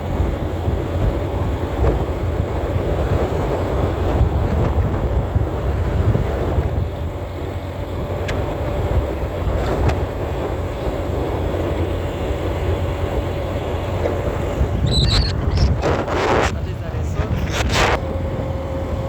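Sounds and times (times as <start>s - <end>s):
motorcycle engine rumble: 0.0s - 19.0s
wind rushing past microphone: 0.0s - 19.0s.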